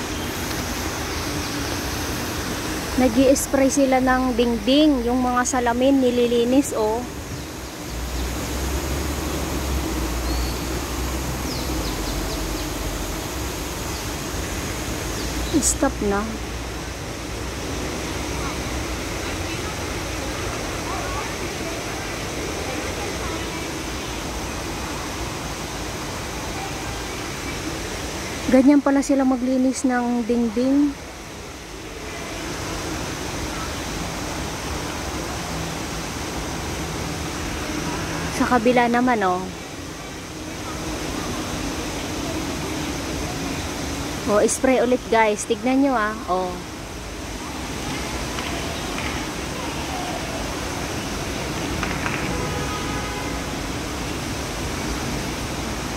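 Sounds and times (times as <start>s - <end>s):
water fountain splashing: 0.0s - 55.9s.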